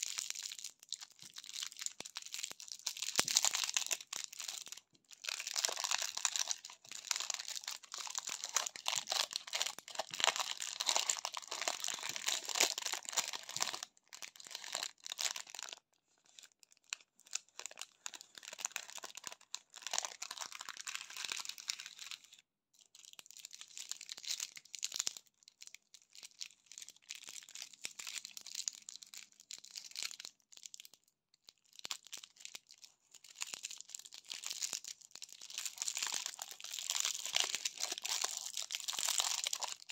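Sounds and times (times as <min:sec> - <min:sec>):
candy wrappers crinkling: 0:00.0 - 0:39.9.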